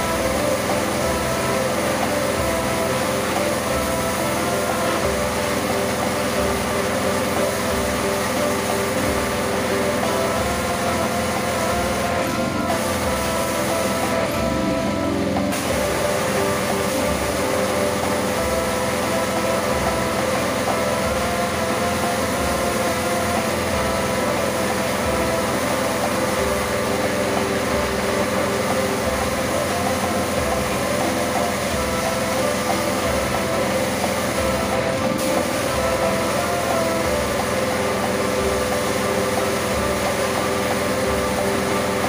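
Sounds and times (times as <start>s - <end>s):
pressure washer motor humming: 0.0s - 42.0s
water jet hissing: 0.0s - 42.0s.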